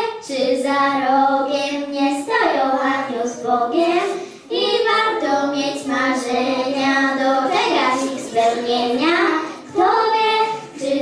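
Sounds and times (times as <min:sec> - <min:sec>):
girls singing into microphones: 0:00.0 - 0:11.0.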